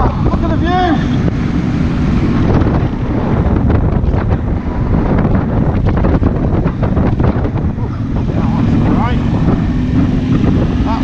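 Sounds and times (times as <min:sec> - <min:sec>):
motorcycle engine running: 0:00.0 - 0:11.0
wind buffeting on microphone: 0:00.0 - 0:11.0.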